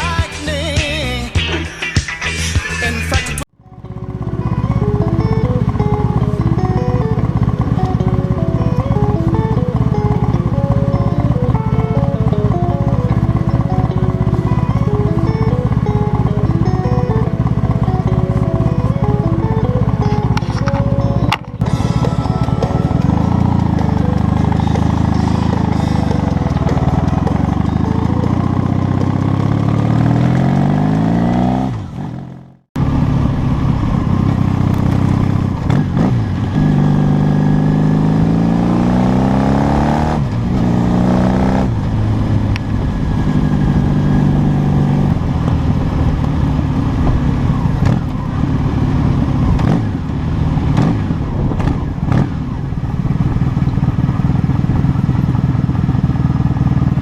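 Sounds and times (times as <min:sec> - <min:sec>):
vehicle engine accelerating: 0:02.3 - 0:57.0.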